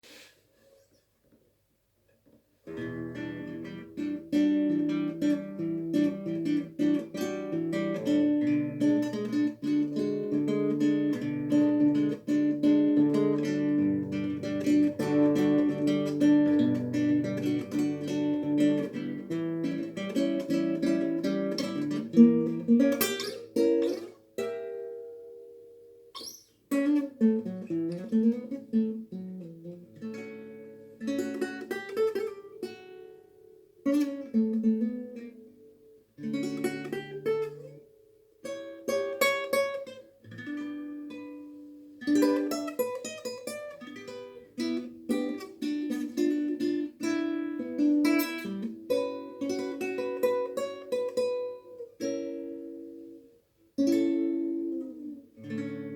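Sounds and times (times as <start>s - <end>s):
acoustic guitar playing: 2.6s - 55.9s.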